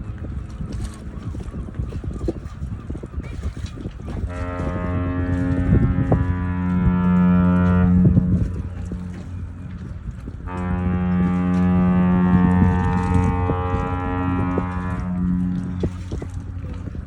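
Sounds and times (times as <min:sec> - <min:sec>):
deep ship's horn blasts: 0:00.0 - 0:17.0.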